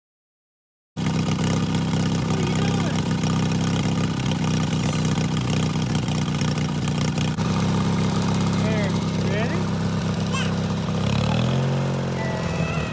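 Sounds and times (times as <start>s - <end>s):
lawn tractor engine idling: 1.0s - 12.9s.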